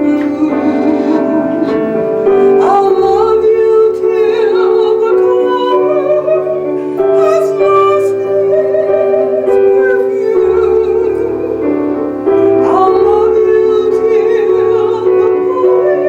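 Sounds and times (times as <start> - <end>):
piano accompaniment: 0.0 - 16.0
woman singing: 0.0 - 16.0.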